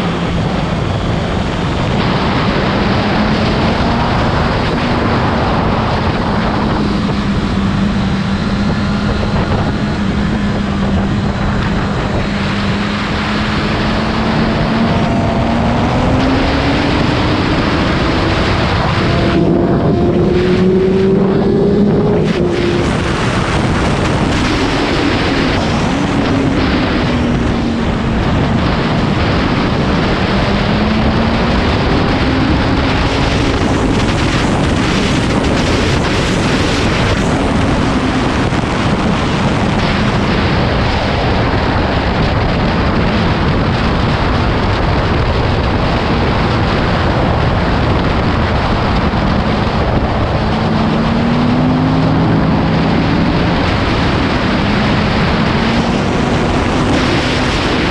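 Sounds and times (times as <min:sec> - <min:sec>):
motorcycle engine revving: 0:00.0 - 0:57.9
wind rushing over microphone: 0:00.0 - 0:57.9.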